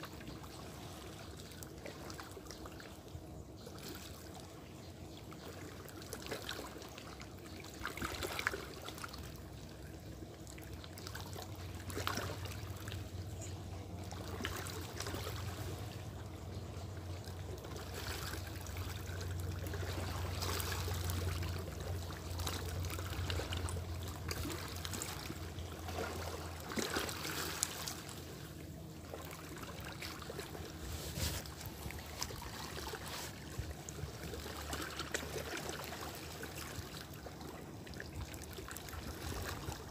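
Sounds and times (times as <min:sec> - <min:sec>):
low steady hum: 0:00.0 - 0:39.9
waves lapping against rocks: 0:05.3 - 0:39.9.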